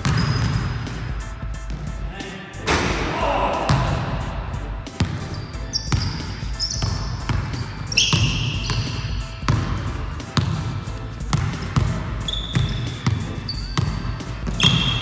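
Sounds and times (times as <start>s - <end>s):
basketball bouncing on wooden floor: 0.0s - 2.0s, 4.9s - 15.0s
sneakers squeaking: 0.0s - 2.2s, 2.8s - 15.0s.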